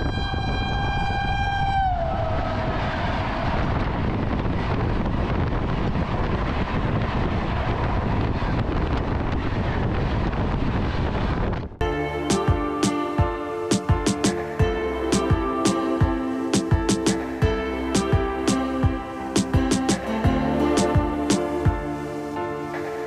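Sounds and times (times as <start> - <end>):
rushing wind: 0.0 - 23.0.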